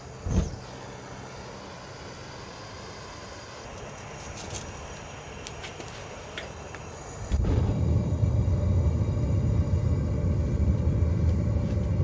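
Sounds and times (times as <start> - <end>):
burner humming: 0.0 - 12.0
burner igniting whoomp: 0.0 - 12.0.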